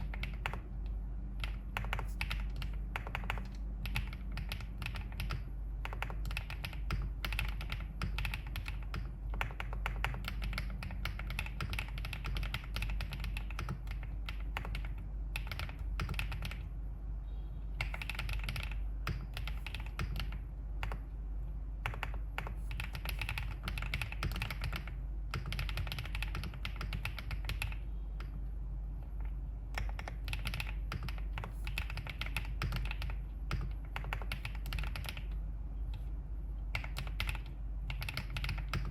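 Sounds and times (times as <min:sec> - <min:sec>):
mechanical keyboard typing: 0:00.0 - 0:16.7, 0:17.8 - 0:21.1, 0:21.8 - 0:28.4, 0:29.0 - 0:36.0, 0:36.7 - 0:38.9
steady low hum: 0:00.0 - 0:38.9.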